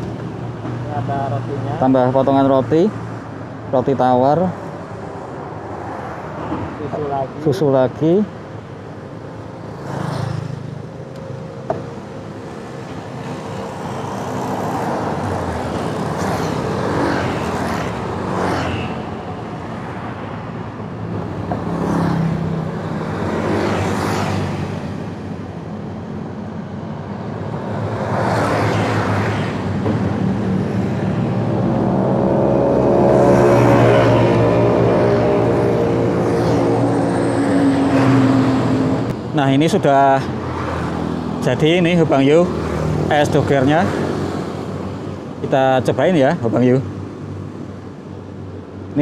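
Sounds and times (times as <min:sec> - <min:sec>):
background traffic noise: 0:00.0 - 0:49.0
vehicles passing: 0:00.0 - 0:49.0.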